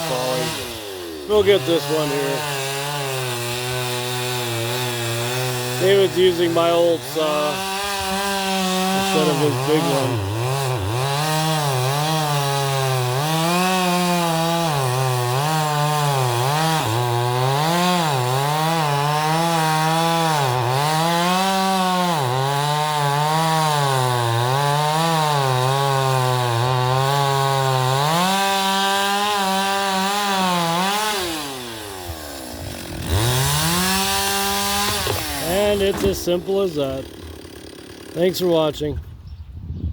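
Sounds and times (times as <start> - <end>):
chainsaw cutting wood: 0.0 - 38.8.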